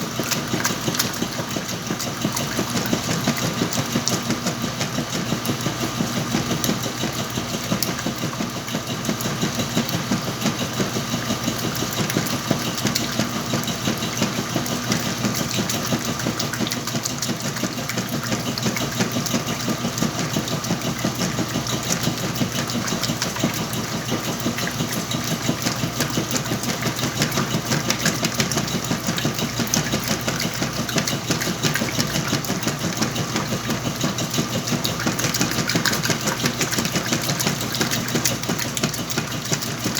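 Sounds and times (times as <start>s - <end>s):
washing machine clattering: 0.0s - 39.9s
washing machine motor hum: 0.0s - 39.9s.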